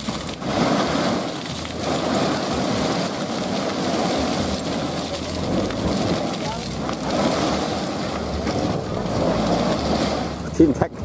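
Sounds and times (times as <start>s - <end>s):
gravel pouring from dump truck: 0.0s - 11.0s
truck engine running: 0.0s - 11.0s.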